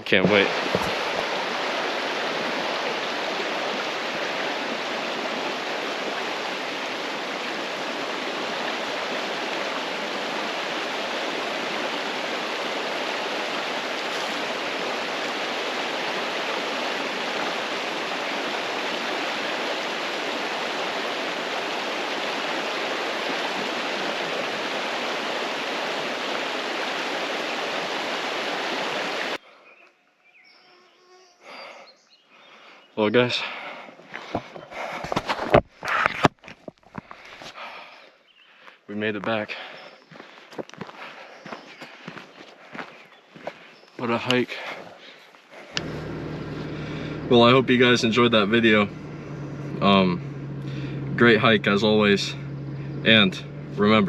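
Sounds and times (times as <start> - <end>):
creek water rushing: 0.0 - 29.4, 39.6 - 54.0.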